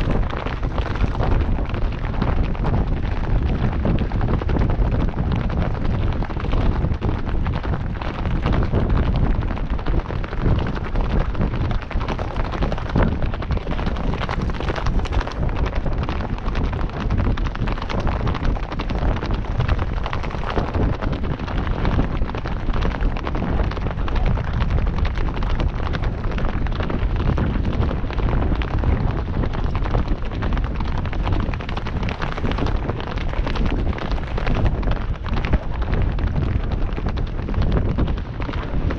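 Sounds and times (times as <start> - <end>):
hoofbeats on dirt trail: 0.0 - 38.9
wind buffeting microphone: 0.0 - 38.9.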